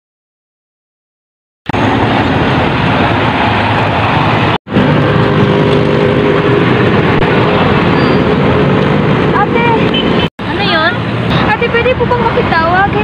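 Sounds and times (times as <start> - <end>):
cars and motorbikes passing: 1.7 - 13.0
highway traffic: 1.7 - 13.0.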